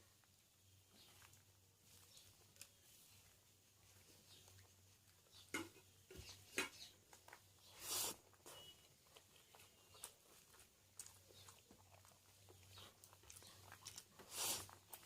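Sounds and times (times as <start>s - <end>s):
chewing with wet mouth clicks: 0.2s - 15.0s.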